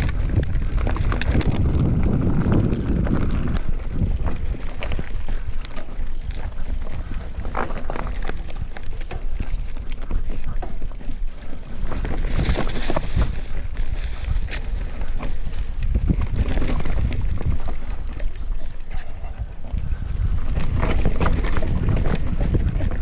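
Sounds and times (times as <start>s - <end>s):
bike chain and frame rattling: 0.0s - 23.0s
wind buffeting microphone: 0.0s - 23.0s.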